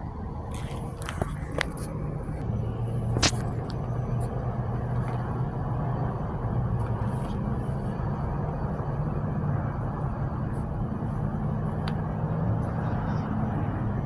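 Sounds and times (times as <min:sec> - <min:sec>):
helicopter rumbling: 0:00.0 - 0:14.0.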